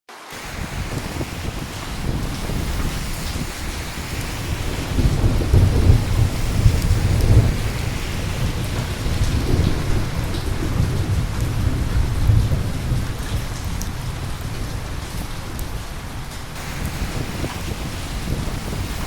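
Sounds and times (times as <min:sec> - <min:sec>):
heavy rain hissing: 0:00.1 - 0:19.0
thunder rumbling: 0:00.3 - 0:19.0.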